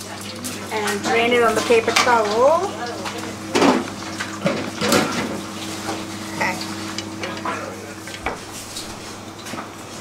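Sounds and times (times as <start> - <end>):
hot oil sizzling: 0.0 - 9.3
steady hum: 0.6 - 10.0.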